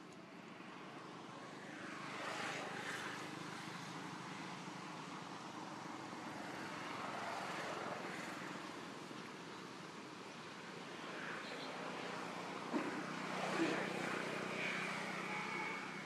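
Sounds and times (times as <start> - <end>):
distant traffic passing: 0.0 - 16.0.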